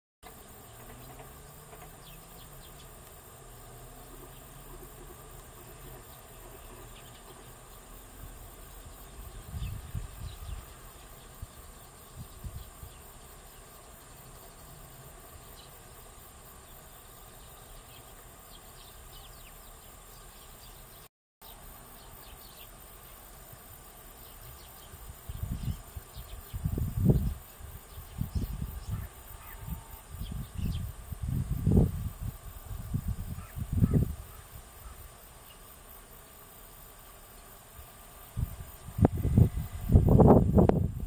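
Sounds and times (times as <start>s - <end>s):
insects droning: 0.2s - 41.0s.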